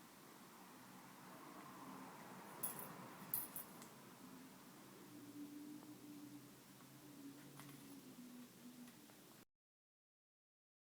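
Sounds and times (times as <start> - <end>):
faint low hum: 0.0 - 9.4.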